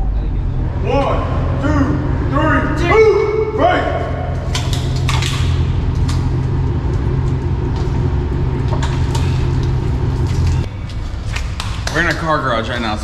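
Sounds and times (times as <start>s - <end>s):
car interior road rumble: 0.0s - 10.8s.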